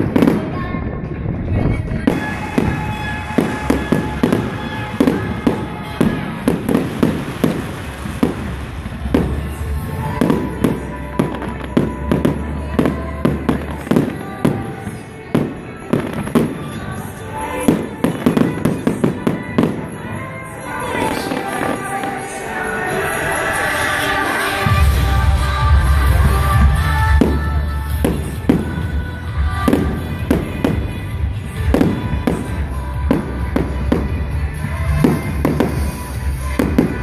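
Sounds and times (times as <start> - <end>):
fireworks bangs: 0.0 - 37.0.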